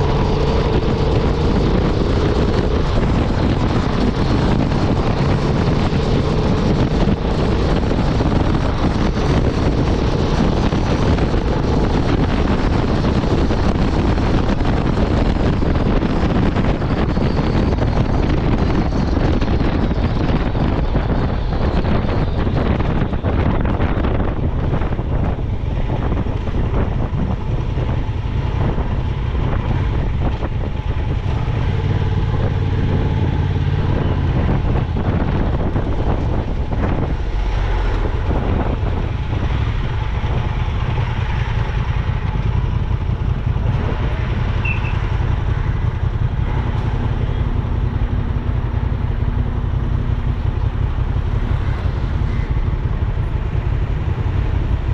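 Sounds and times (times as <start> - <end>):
motorcycle engine at highway speed: 0.0 - 54.9
wind rushing over microphone: 0.0 - 54.9.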